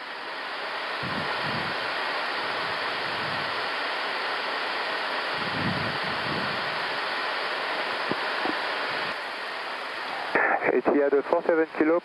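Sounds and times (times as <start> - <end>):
rushing airflow hiss: 0.0 - 12.0.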